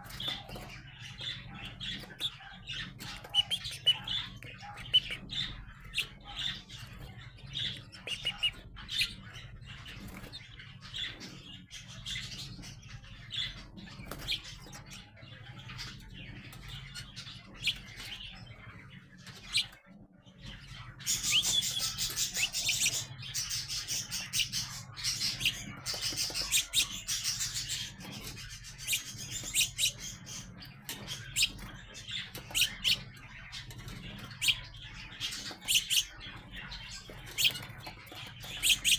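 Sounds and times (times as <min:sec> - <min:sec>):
young sparrows chirping: 0:00.0 - 0:38.9.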